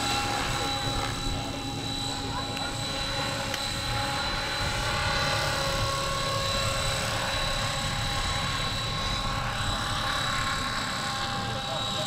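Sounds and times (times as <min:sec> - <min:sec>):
model helicopter whine: 0:00.0 - 0:12.0.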